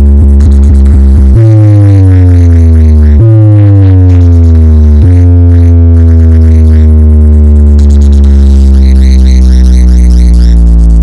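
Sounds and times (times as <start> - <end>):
electronic music with deep bass: 0.0 - 11.0
synth tone sliding downward: 0.0 - 11.0.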